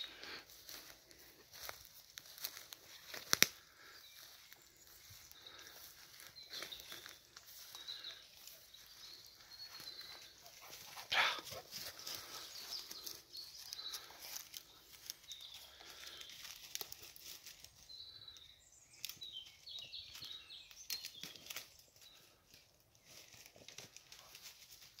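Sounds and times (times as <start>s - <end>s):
dry brush rustling and crackling: 0.0s - 18.2s, 18.9s - 25.0s.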